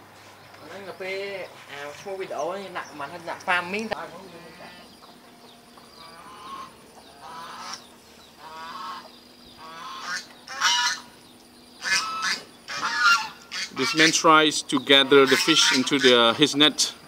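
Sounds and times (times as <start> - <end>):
birds honking: 0.6 - 17.0.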